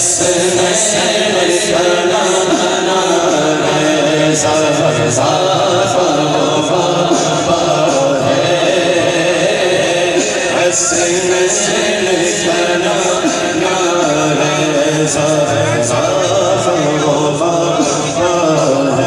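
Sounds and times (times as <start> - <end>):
backing singer: 0.0 - 19.0
man singing through pa system: 0.0 - 19.0.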